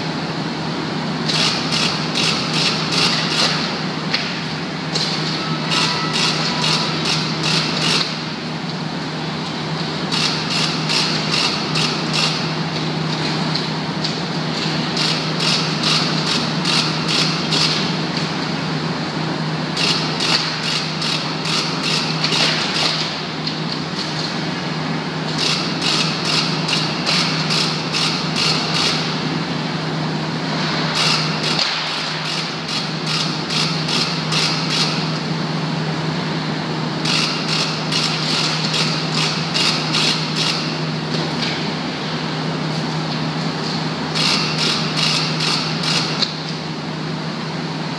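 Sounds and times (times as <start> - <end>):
industrial hum: 0.0 - 47.9.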